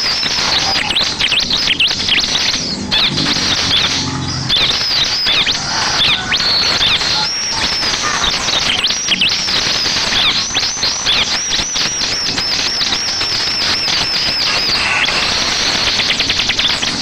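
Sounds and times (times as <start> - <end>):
bird song of high sharp notes: 0.0 - 17.0.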